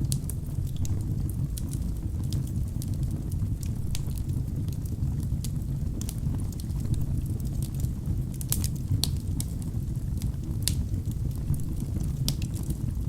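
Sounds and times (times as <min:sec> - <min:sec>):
logs crackling and popping: 0:00.0 - 0:13.0
wood fire rumbling: 0:00.0 - 0:13.0.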